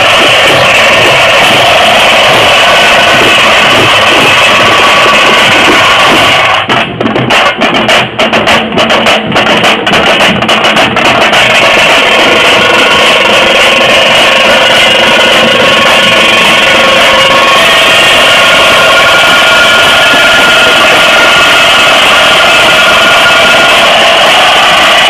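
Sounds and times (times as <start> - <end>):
frame drums playing: 0.0 - 25.0.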